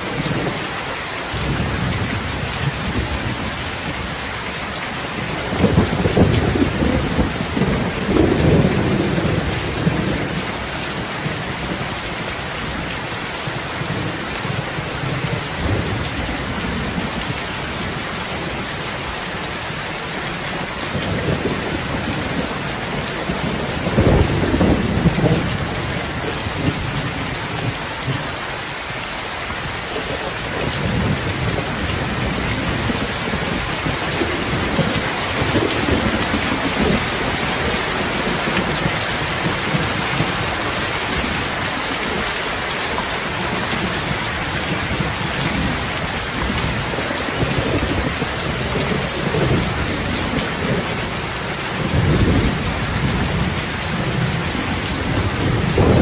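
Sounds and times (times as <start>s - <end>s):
heavy rain: 0.0s - 56.0s
low rolling thunder: 5.2s - 12.9s, 13.5s - 18.8s, 20.3s - 28.4s, 29.6s - 56.0s.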